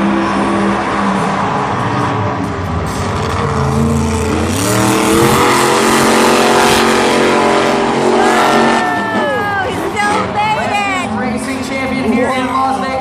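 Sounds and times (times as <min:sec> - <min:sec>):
monster truck engines racing: 0:00.0 - 0:13.0.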